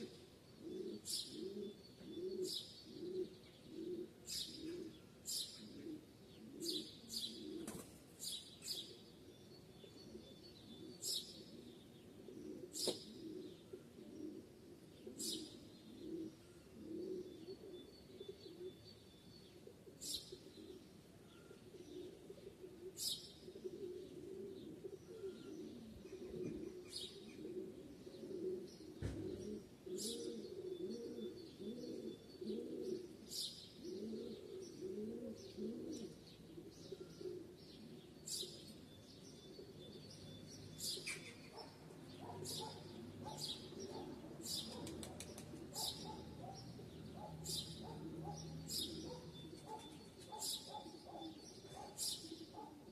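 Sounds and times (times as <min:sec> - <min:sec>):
doves cooing: 0:00.0 - 0:08.1, 0:10.0 - 0:18.9, 0:19.5 - 0:52.9.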